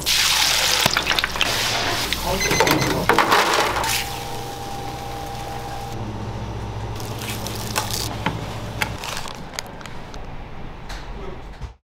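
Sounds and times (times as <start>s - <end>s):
kitchen equipment hum: 0.0s - 11.7s.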